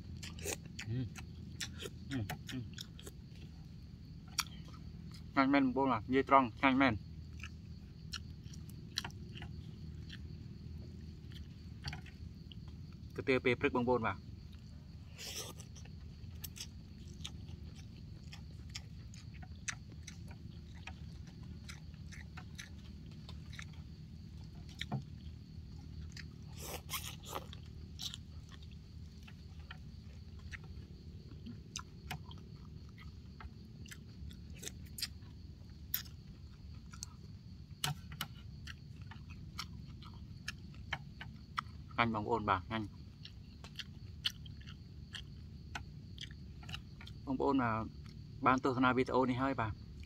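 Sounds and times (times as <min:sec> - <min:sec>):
chewing and wet smacking: 0:00.0 - 0:05.4, 0:06.3 - 0:13.2, 0:14.3 - 0:48.4.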